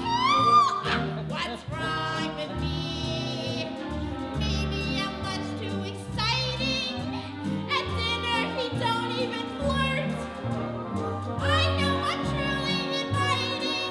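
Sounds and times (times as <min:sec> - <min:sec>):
woman singing with vibrato: 0:00.0 - 0:10.2, 0:11.4 - 0:13.9
small band playing: 0:00.0 - 0:13.9
upright double bass: 0:00.0 - 0:13.9.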